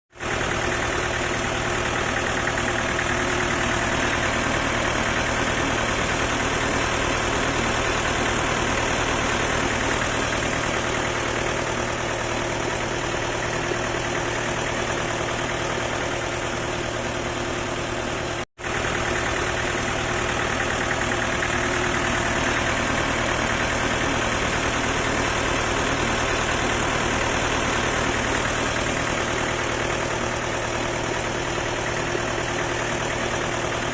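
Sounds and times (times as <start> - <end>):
diesel engine idling: 0.2 - 33.9.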